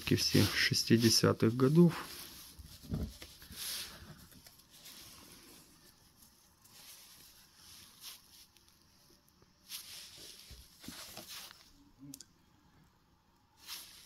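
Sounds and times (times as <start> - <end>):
postcards rustling and sliding: 0.0 - 11.8, 13.6 - 14.0.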